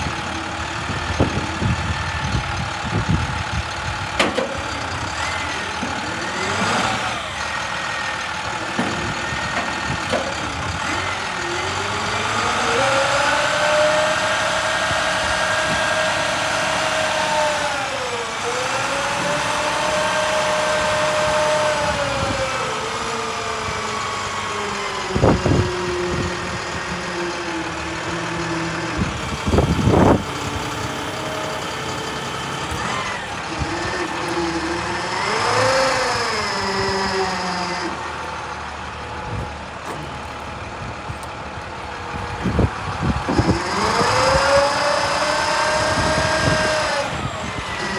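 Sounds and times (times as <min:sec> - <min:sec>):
diesel truck engine whining: 0:00.0 - 0:47.9.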